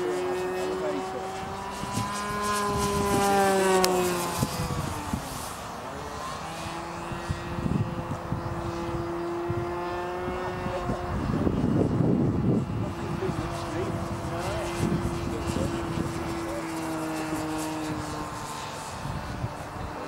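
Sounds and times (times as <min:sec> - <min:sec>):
model plane engine whine: 0:00.0 - 0:20.0.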